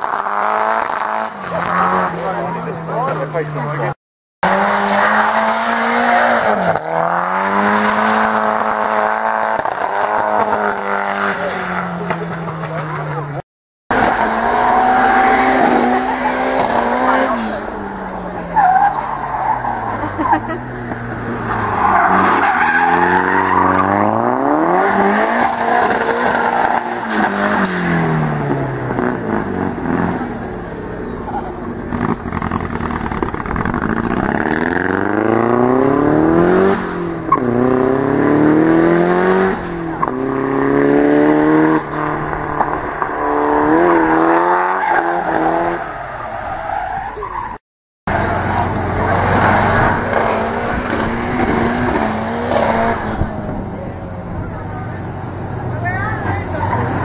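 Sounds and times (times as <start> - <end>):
car engine revving: 0.0 - 47.4, 48.0 - 57.0
tyres skidding: 0.0 - 57.0.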